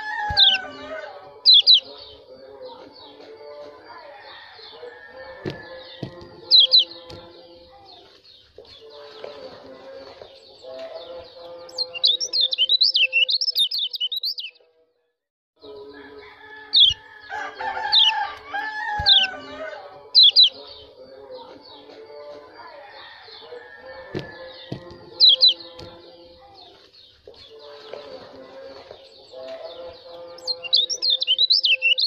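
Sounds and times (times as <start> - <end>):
bird chirps and warbling: 0.0 - 14.6, 16.6 - 32.0.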